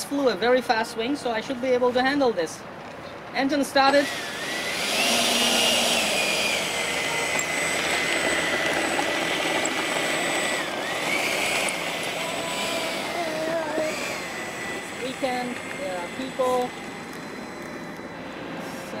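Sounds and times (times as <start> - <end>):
electric ducted fan whining: 3.7 - 19.0.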